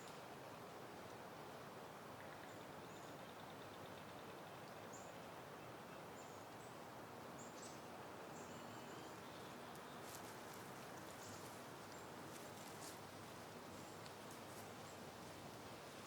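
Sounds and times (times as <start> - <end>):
wind through foliage: 0.0 - 16.0.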